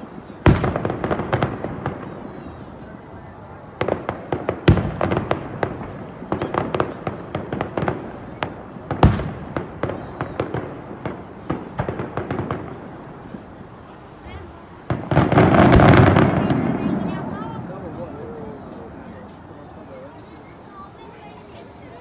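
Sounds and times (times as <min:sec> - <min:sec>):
fireworks bangs and crackling: 0:00.0 - 0:22.0.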